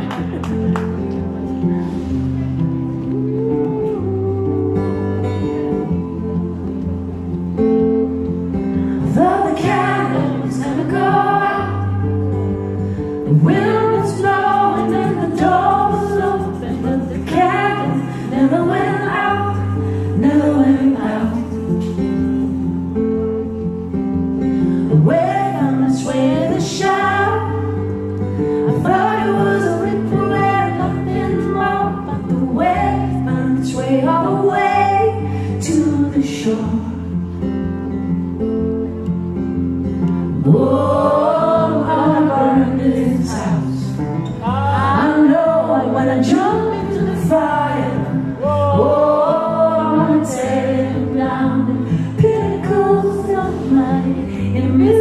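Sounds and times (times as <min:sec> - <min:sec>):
strummed acoustic guitar: 0:00.0 - 0:55.0
woman singing: 0:03.0 - 0:07.8, 0:09.0 - 0:22.6, 0:24.8 - 0:37.3, 0:40.4 - 0:55.0.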